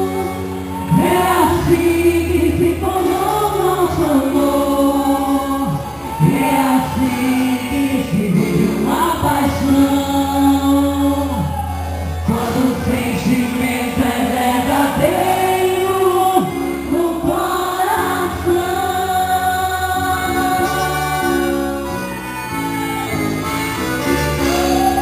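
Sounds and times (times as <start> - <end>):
sustained vocal melody: 0.0 - 25.0.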